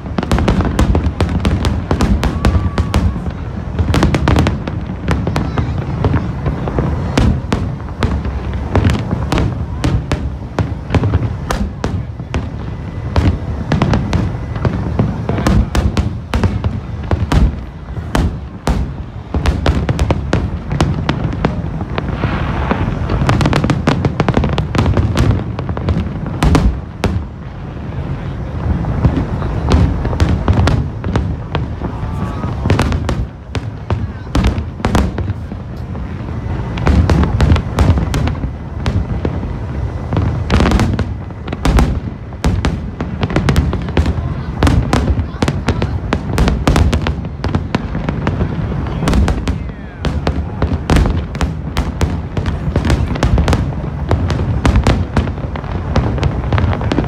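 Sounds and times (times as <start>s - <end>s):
fireworks bangs and crackles: 0.0s - 57.0s
heavy rumble: 0.0s - 57.0s.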